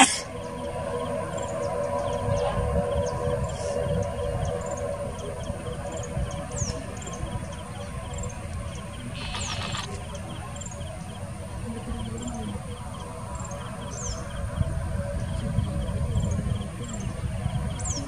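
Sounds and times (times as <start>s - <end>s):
propeller engines humming: 0.0s - 18.0s
insects chirping: 0.1s - 18.0s.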